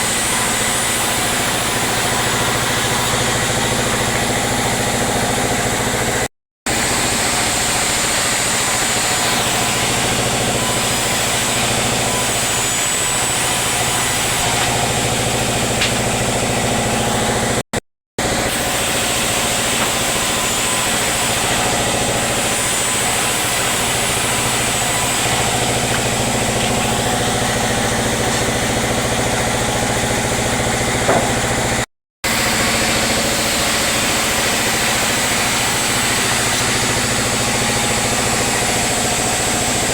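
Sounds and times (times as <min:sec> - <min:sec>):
sawmill machinery drone: 0:00.0 - 0:17.6, 0:18.2 - 0:39.9.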